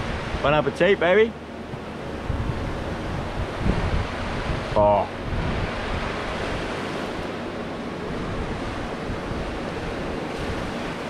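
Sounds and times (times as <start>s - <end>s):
wind on microphone: 0.0s - 0.7s, 1.6s - 11.0s
surf washing onto beach: 0.0s - 11.0s.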